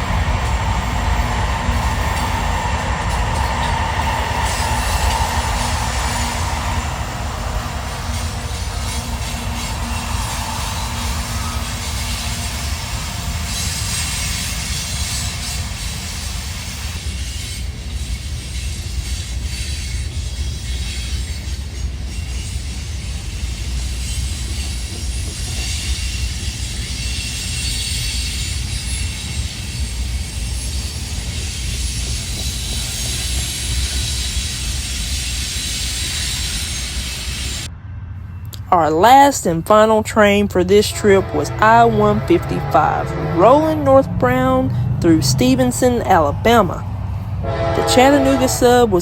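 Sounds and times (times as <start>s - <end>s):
freight train wheels rumbling: 0.0s - 49.0s.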